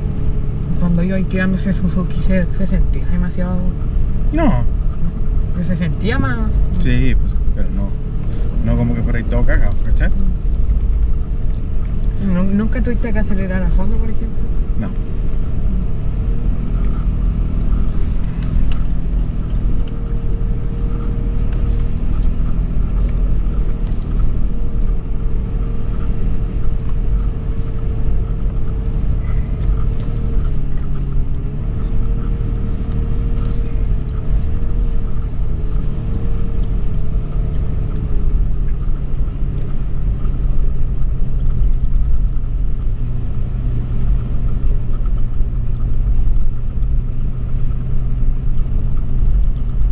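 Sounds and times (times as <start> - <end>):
car engine low rumble: 0.0 - 49.9.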